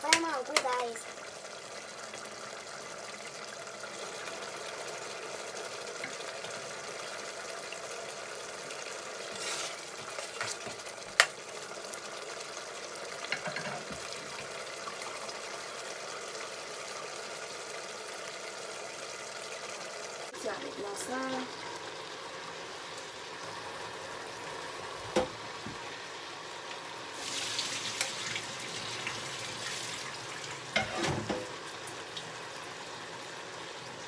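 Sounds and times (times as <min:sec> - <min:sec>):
sauce simmering in a pot: 0:00.0 - 0:34.0.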